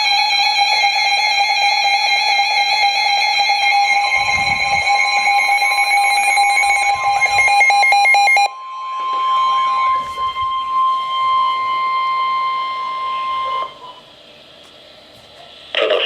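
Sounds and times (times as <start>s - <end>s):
layered electronic alarm tones: 0.0s - 14.1s.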